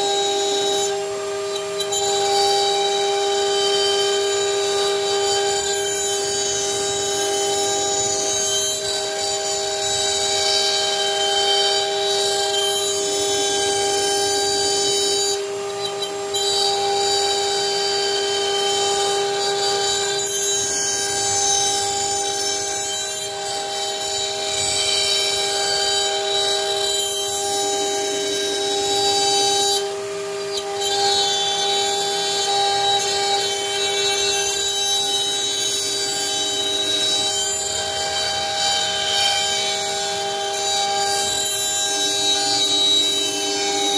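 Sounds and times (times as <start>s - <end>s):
router bit cutting wood hiss: 0.0s - 43.9s
router spindle whine: 0.0s - 43.9s.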